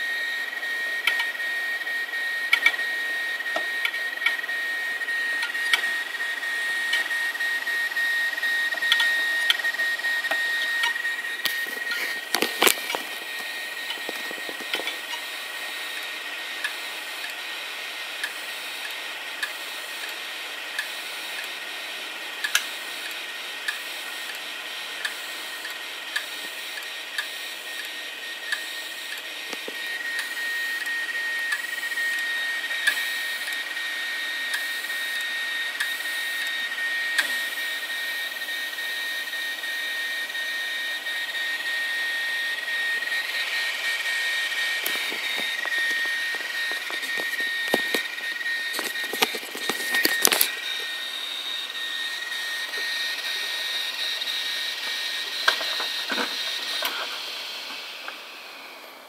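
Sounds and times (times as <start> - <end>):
hard drive whine: 0.0 - 59.0.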